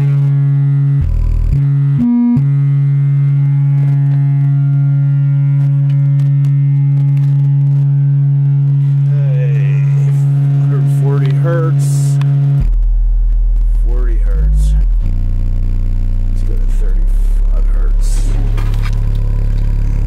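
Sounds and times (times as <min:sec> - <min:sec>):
steady test tone: 0:00.0 - 0:20.0.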